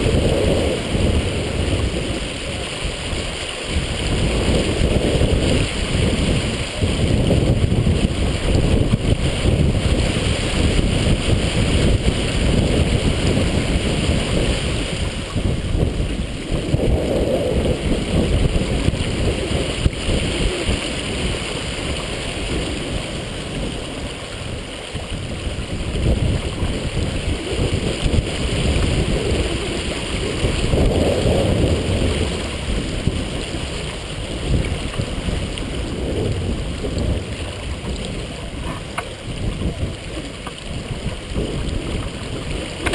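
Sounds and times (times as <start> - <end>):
water splashing along boat hull: 0.0 - 42.9
wind buffeting microphone: 0.0 - 42.9.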